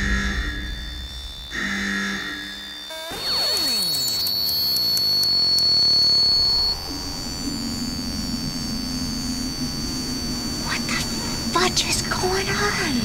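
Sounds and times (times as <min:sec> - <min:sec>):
high-pitched ringing tone: 0:00.0 - 0:13.0
low steady drone: 0:00.0 - 0:13.0.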